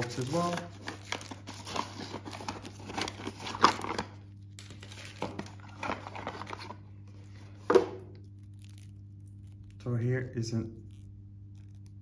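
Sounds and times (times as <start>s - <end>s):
paper wrapping crinkling: 0.0s - 9.8s.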